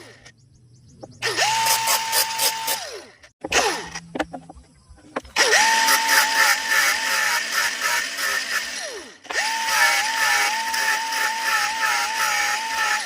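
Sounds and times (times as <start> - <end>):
electric drill whining: 1.2 - 4.0, 5.3 - 13.0
drill rattle: 1.2 - 4.5, 5.1 - 13.0.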